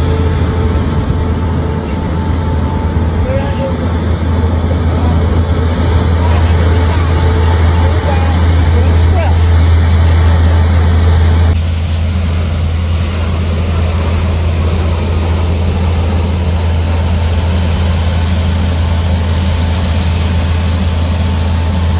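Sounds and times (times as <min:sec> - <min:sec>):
low engine rumble: 0:00.0 - 0:21.9.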